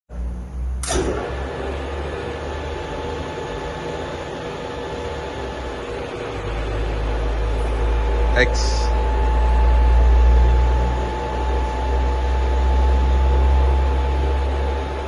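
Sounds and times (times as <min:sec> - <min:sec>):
deeper hum: 0:00.1 - 0:15.0
milling machine whine: 0:00.2 - 0:15.0.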